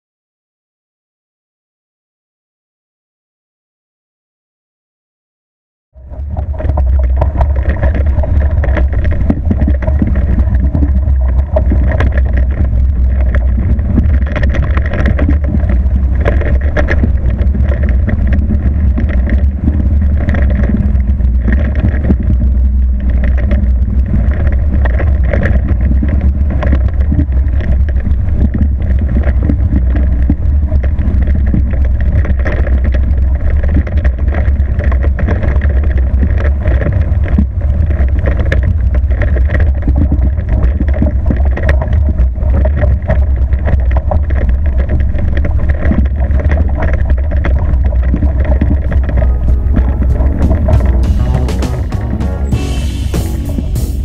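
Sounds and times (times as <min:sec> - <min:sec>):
wind buffeting microphone: 0:06.0 - 0:52.5
steady hum: 0:06.0 - 0:54.0
water rushing along hull: 0:06.0 - 0:54.0.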